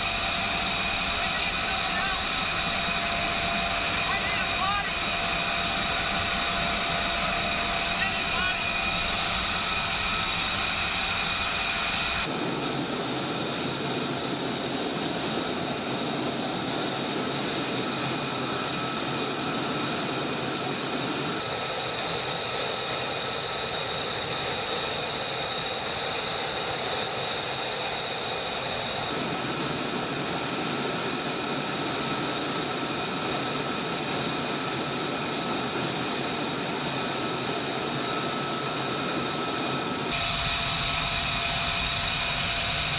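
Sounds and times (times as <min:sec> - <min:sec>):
jet engine whining: 0:00.0 - 0:42.9.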